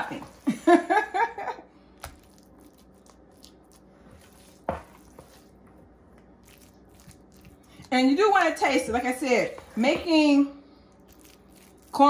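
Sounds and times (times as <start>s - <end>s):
moist food squishing: 1.8s - 12.0s.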